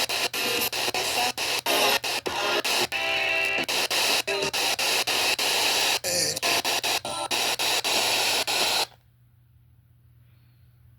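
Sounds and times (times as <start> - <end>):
radio station audio snatches: 0.0 - 8.9
radio static hiss: 0.0 - 9.0.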